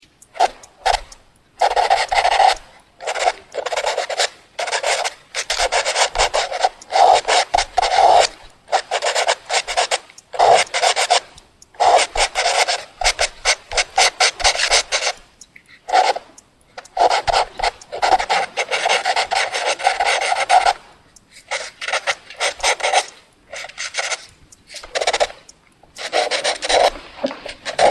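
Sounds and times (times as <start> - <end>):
drawing tool scratching paper: 0.4 - 16.2, 16.8 - 27.9.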